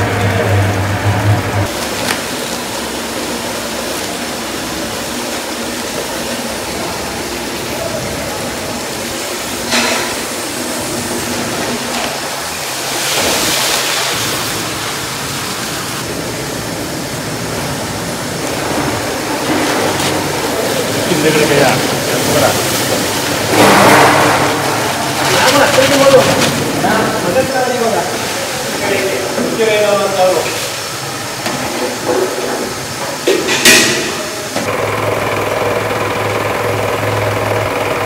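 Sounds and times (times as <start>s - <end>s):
busy kitchen background noise: 0.0s - 38.0s.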